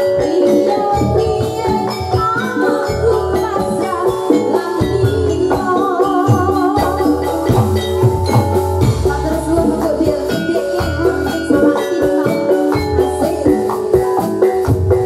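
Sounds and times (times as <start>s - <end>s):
metal mallet instruments melody: 0.0s - 15.0s
drum strokes: 1.0s - 15.0s.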